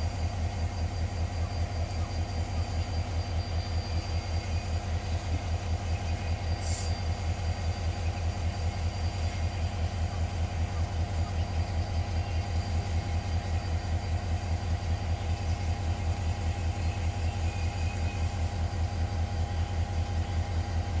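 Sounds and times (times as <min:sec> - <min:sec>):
locomotive engine idling: 0:00.0 - 0:21.0.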